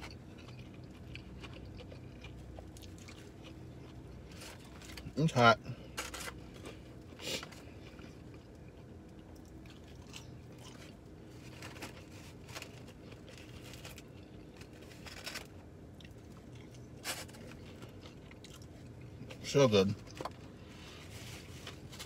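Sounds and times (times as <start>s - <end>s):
person crunching crispy food: 0.0s - 19.4s
steady low hum: 0.0s - 22.0s.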